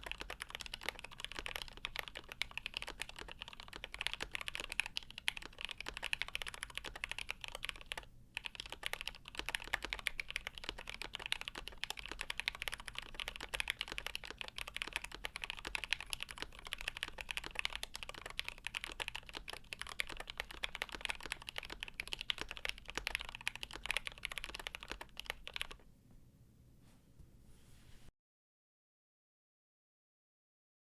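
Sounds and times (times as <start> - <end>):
mechanical keyboard typing: 0.0 - 25.8.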